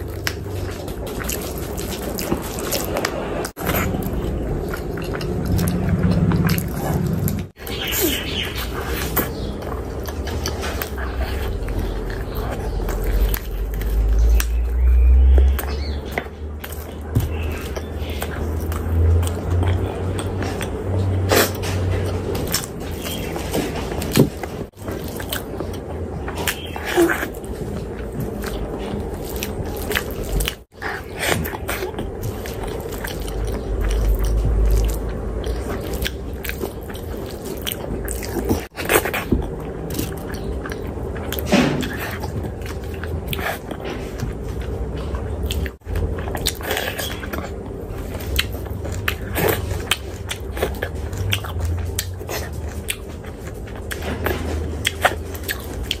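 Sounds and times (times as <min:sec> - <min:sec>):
wet chewing and smacking: 0:00.0 - 0:56.0.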